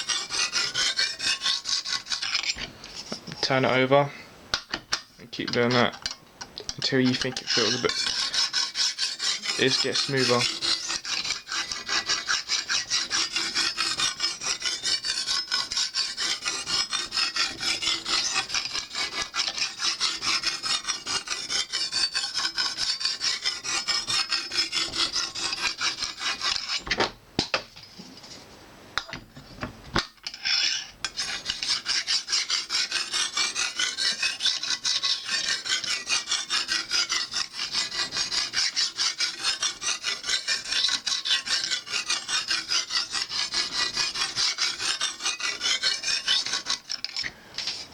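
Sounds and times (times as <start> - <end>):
sharpening stone scraping knife edge: 0.0 - 2.6, 5.7 - 26.9, 30.0 - 47.8.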